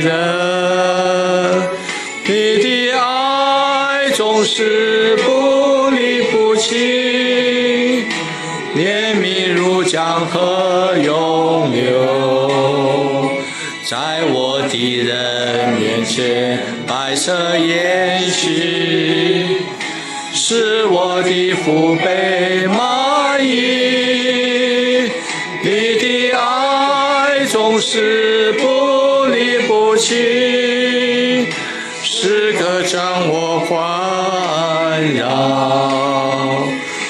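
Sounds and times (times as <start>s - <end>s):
group singing worship song: 0.0s - 37.0s.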